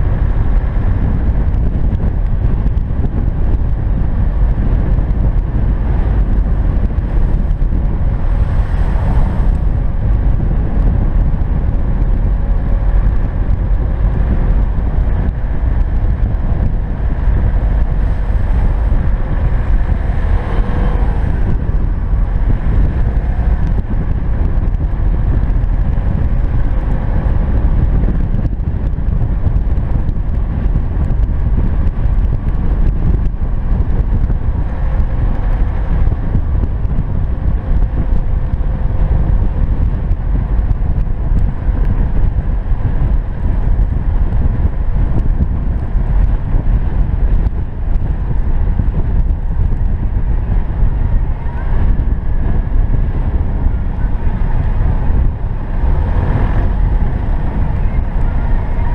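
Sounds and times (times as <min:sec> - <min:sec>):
car engine tyre and wind rumble: 0:00.0 - 0:58.9.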